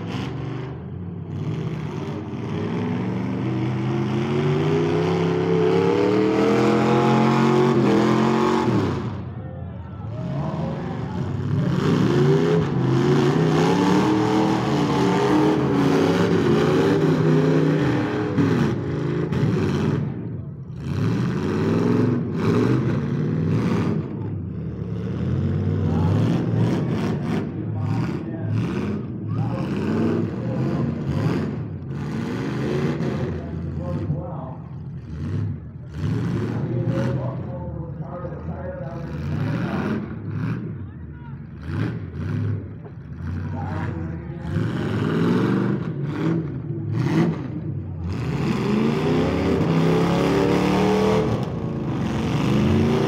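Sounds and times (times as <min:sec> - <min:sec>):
car engines revving hard: 0:00.0 - 0:53.0.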